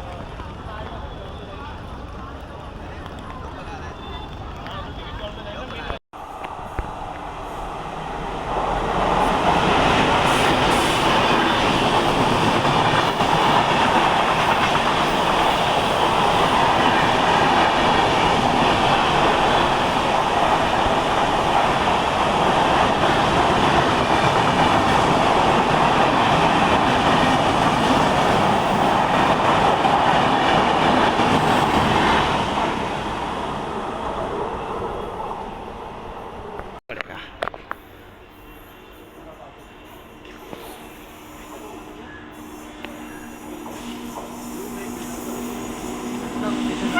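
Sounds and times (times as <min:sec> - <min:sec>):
train wheels rushing on rail: 0:00.0 - 0:36.8, 0:37.6 - 0:46.9.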